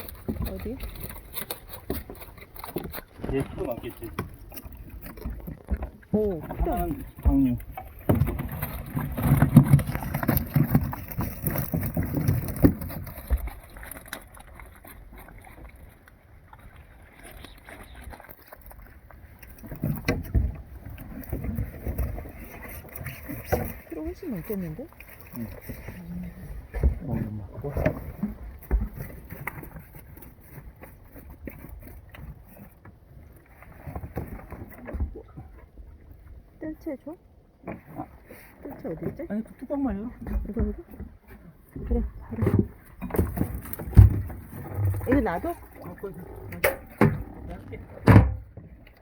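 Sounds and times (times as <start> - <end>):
faint water wash: 0.0 - 49.0
knocks and thumps in boat: 0.0 - 49.0.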